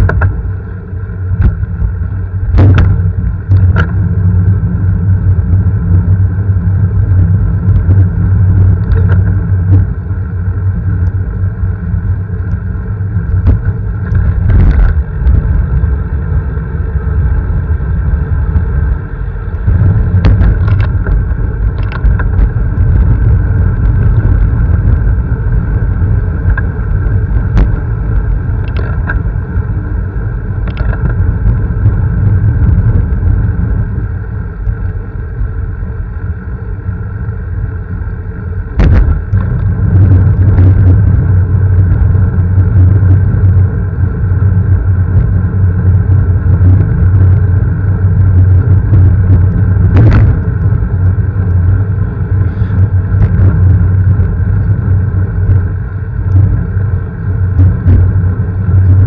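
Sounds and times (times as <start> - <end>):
vehicle riding rumble: 0.0 - 59.0.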